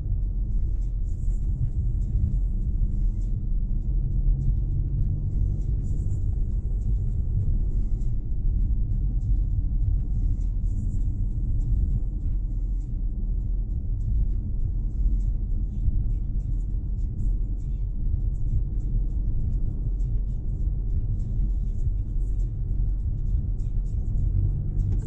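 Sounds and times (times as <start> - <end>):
car cabin road rumble: 0.0 - 25.0.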